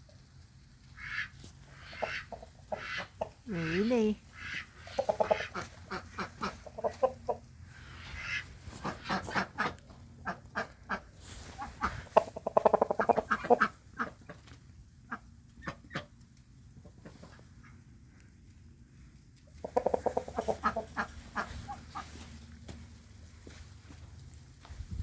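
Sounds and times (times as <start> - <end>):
poultry clucking and cackling: 0.0 - 24.6.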